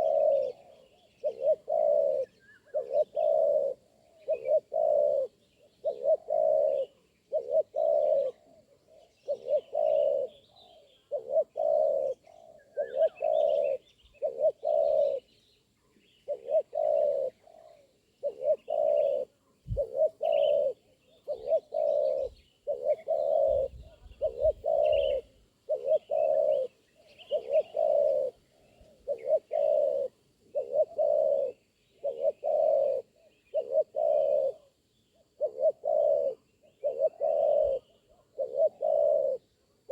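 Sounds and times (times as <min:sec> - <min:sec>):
dove cooing: 0:00.0 - 0:15.4, 0:16.0 - 0:39.9
small birds chirping: 0:00.0 - 0:39.9.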